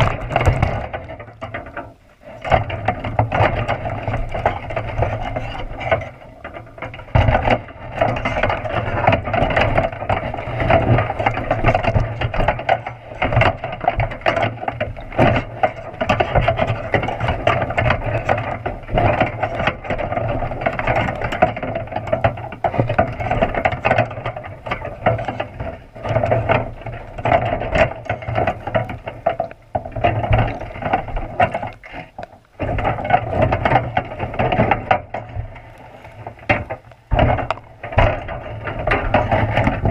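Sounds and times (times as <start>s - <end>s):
crab trap rattling underwater: 0.0s - 39.9s.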